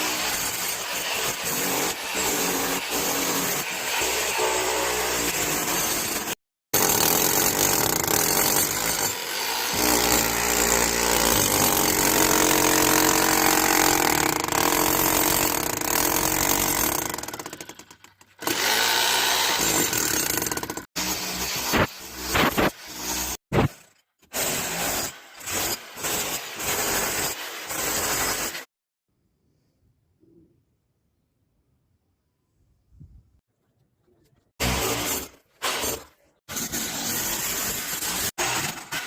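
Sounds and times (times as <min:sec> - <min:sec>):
power tool on concrete: 0:00.0 - 0:28.7, 0:34.6 - 0:39.0.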